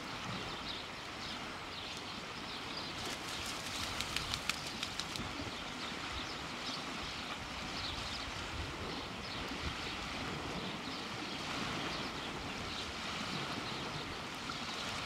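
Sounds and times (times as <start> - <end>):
surf rushing on a beach: 0.0 - 15.0.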